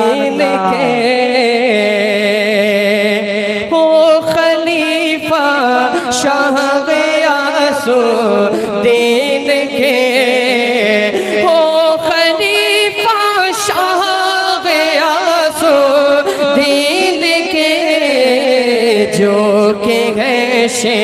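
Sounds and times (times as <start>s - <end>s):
person singing wordless melody: 0.0s - 21.0s.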